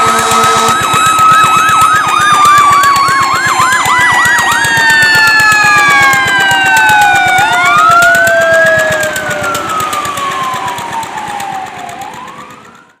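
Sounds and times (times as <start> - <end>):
fast rhythmic ticking: 0.0 - 12.6
emergency vehicle siren wailing: 0.0 - 13.0.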